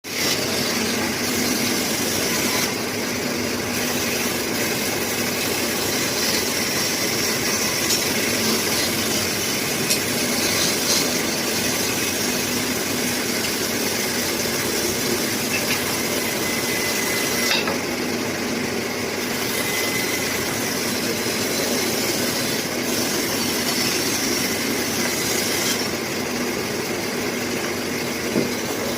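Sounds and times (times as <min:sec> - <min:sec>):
sawmill saw cutting log: 0:00.0 - 0:28.9.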